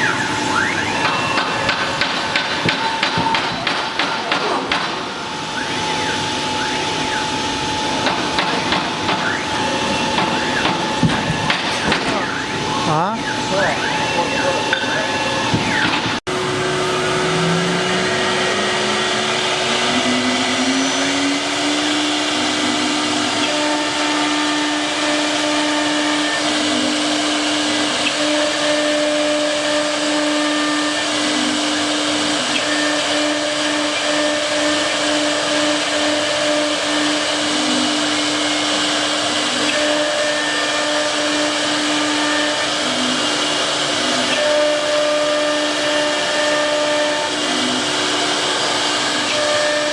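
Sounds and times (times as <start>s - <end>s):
router spindle whine: 5.0s - 49.9s.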